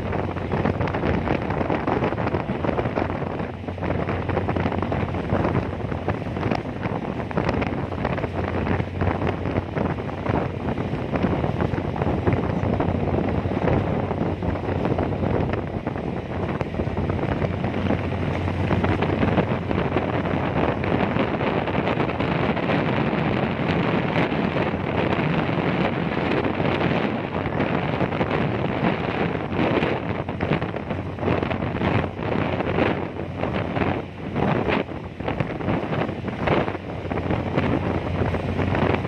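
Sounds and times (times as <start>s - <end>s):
low engine hum: 0.0s - 39.0s
wind buffeting microphone: 0.0s - 39.0s.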